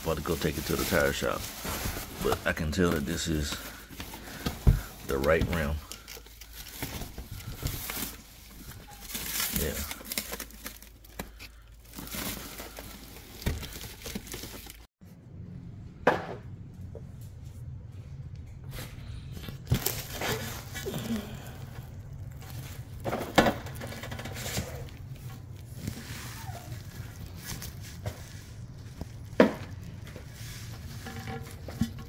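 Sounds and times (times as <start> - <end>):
plastic wrapping crinkling: 0.0 - 14.9, 19.6 - 32.0.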